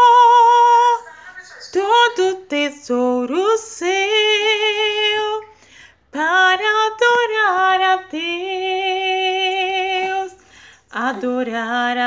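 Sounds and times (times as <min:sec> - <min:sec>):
woman singing unaccompanied: 0:00.0 - 0:05.5, 0:06.1 - 0:12.0.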